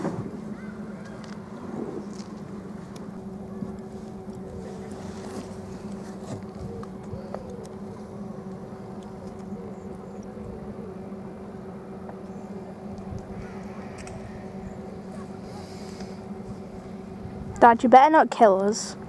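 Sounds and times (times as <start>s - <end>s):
electric boat motor humming: 0.0s - 19.0s.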